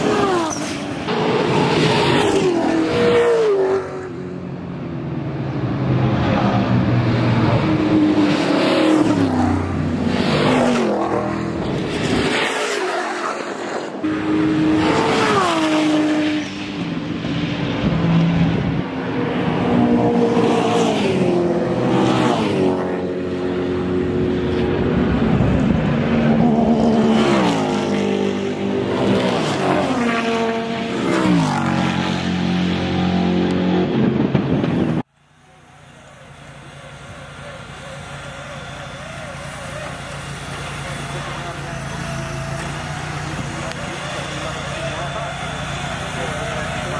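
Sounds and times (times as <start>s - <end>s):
racing cars passing at speed: 0.0s - 46.9s.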